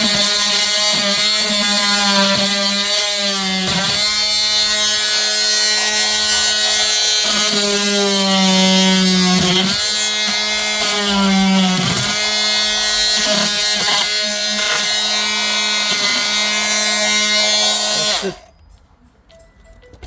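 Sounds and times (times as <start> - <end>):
electric power tool buzzing: 0.0 - 18.5.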